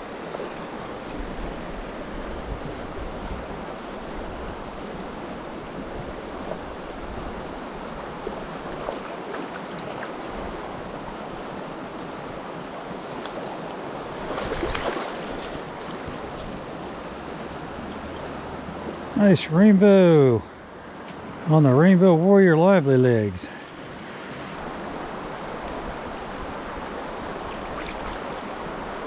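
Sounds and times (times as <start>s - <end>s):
creek water rushing over riffle: 0.0s - 29.0s.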